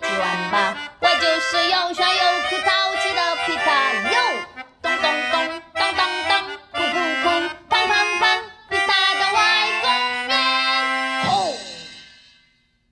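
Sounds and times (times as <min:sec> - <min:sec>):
person singing: 0:00.0 - 0:12.0
bright instrumental backing: 0:00.0 - 0:12.5.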